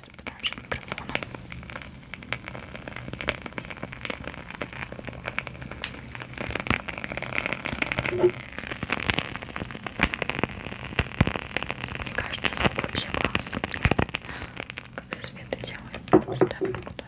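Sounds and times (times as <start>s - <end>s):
candle wick crackling: 0.0s - 17.0s.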